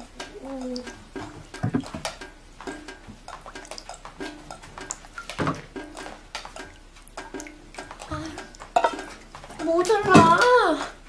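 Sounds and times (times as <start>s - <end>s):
water dripping into pots: 0.0s - 11.0s.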